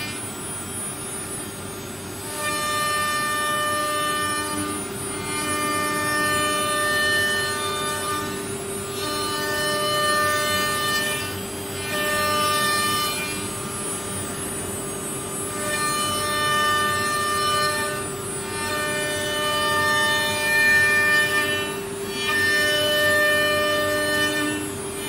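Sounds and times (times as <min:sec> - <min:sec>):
wood router motor whine: 0:00.0 - 0:00.7, 0:02.1 - 0:25.0.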